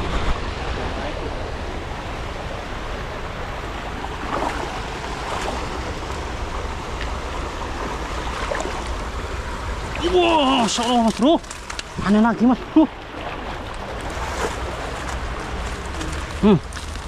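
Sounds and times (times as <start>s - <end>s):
faint water splashes: 0.0s - 17.0s
river water flowing over rocks: 0.0s - 17.0s.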